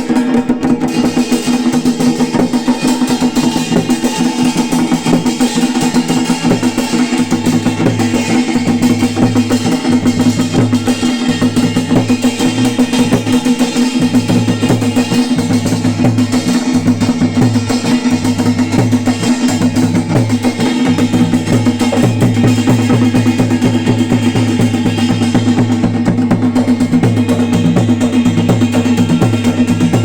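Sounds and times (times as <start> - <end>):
fast drumming: 0.0 - 30.0.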